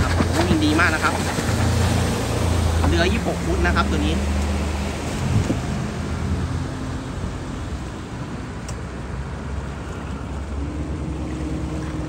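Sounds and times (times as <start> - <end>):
boat engine passing: 0.0 - 12.0
rush of wind and water: 0.0 - 12.0.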